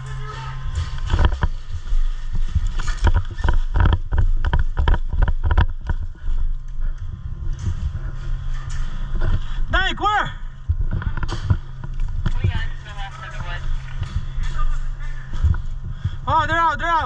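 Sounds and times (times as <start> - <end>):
microphone rumbling: 0.0 - 17.0
rapid knocks and thumps: 0.6 - 9.8, 10.6 - 16.3.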